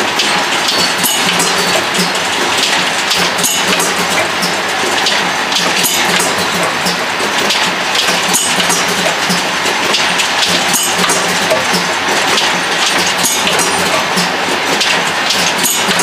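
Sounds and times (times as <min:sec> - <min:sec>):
filling machine clicking: 0:00.0 - 0:16.0.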